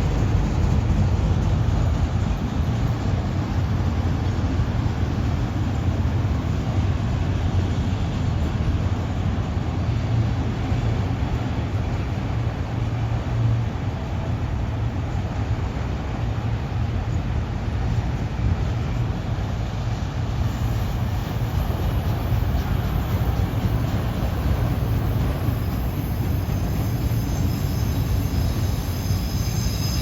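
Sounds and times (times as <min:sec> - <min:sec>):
heavy engines rumbling: 0:00.0 - 0:30.0.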